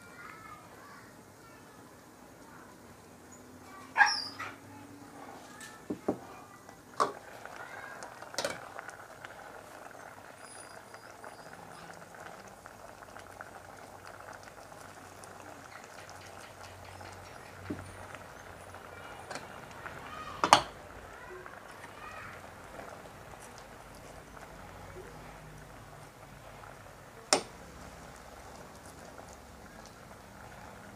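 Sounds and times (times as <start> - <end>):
broth boiling in a pot: 0.0 - 30.9.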